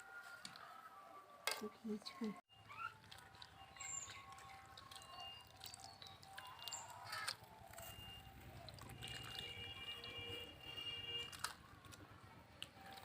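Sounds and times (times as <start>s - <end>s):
water dripping and splashing: 2.5s - 13.0s.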